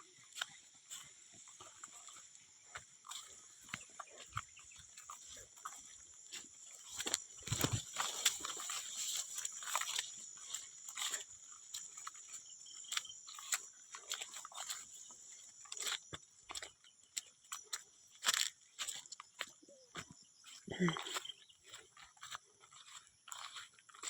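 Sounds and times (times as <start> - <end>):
animal chewing and crunching food: 0.0 - 24.0.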